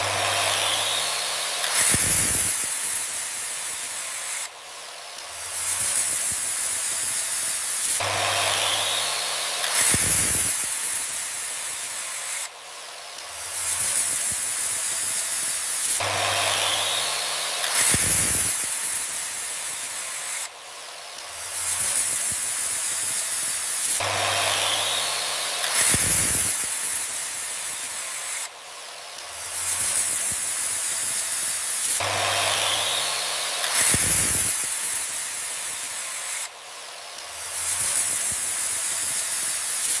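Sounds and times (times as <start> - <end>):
circular saw hissing and whining: 0.0 - 40.0.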